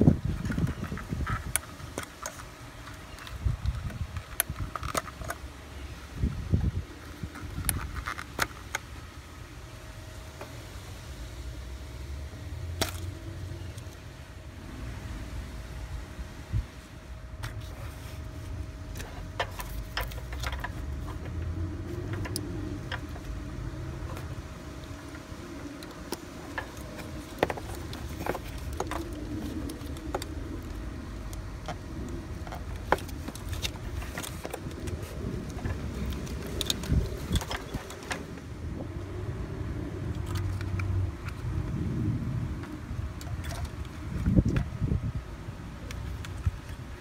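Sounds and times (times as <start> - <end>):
low background rumble: 0.0 - 47.0.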